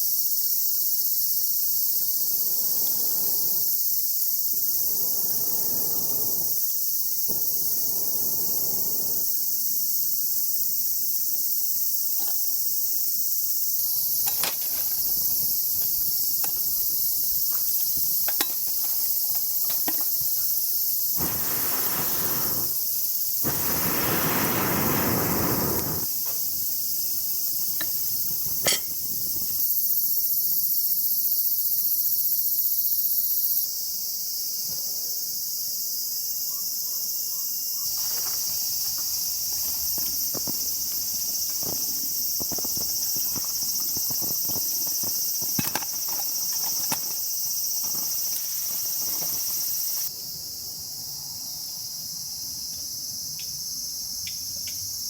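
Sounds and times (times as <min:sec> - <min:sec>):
insects shrilling: 0:00.0 - 0:34.3, 0:36.1 - 0:51.0.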